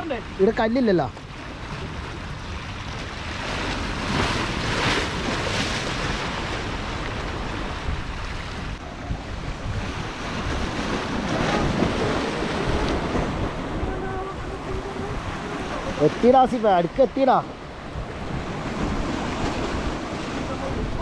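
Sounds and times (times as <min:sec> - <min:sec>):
sea waves breaking on rocks: 0:00.0 - 0:21.0
wind on microphone: 0:01.3 - 0:21.0.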